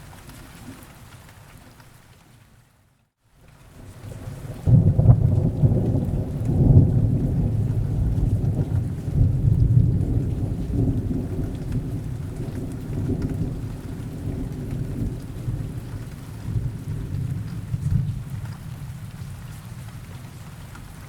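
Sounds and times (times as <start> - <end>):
steady rain: 0.0 - 21.0
low rumble of thunder: 3.7 - 21.0.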